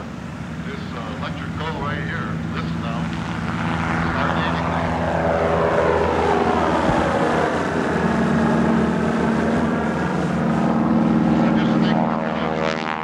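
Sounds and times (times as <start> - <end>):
electric aircraft propeller hum: 0.0 - 13.0.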